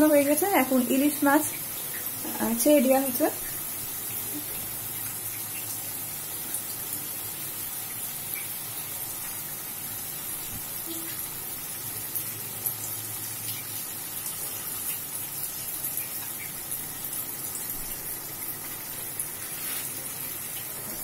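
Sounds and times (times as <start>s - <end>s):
frying masala sizzling: 0.0s - 21.0s.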